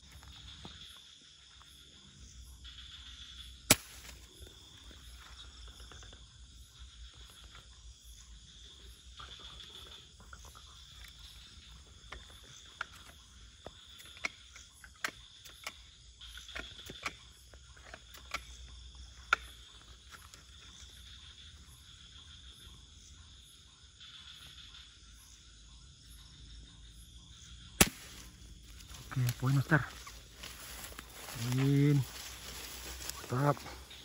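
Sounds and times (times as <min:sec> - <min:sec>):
night insects chirring: 0:00.0 - 0:34.0.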